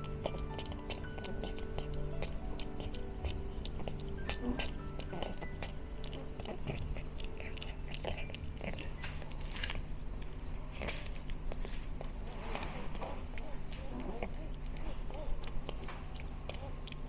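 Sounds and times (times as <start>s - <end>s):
cat crunching dry food: 0.0s - 17.0s.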